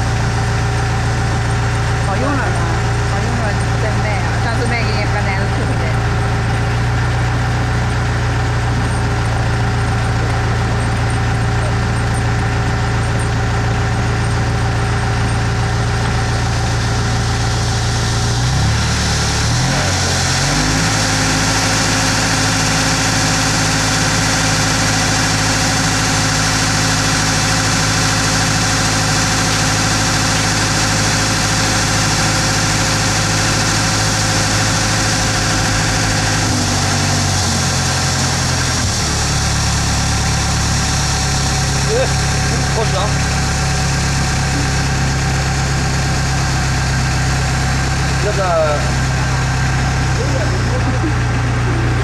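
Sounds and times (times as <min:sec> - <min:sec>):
planing machine humming: 0:00.0 - 0:52.0.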